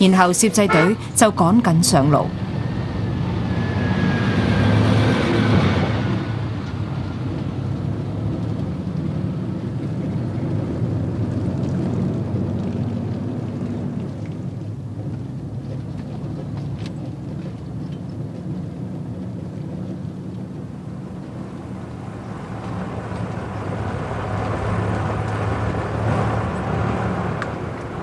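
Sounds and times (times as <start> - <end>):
road noise: 0.0 - 28.0
vehicle engine hum while driving: 2.4 - 28.0.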